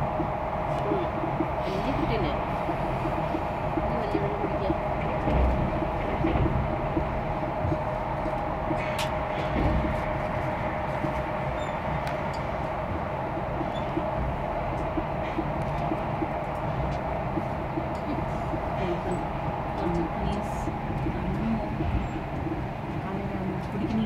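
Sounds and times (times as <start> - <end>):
steady hum: 0.0 - 24.0
train wheels rumbling on rails: 0.0 - 24.0.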